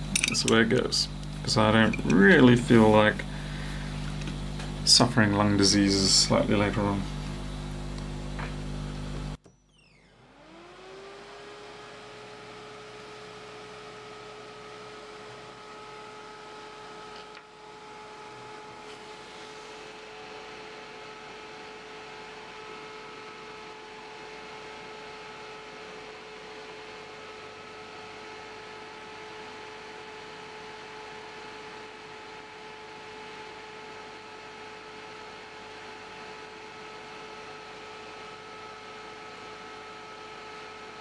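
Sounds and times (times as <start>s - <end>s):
fan and blower hissing and whining: 0.0s - 41.0s.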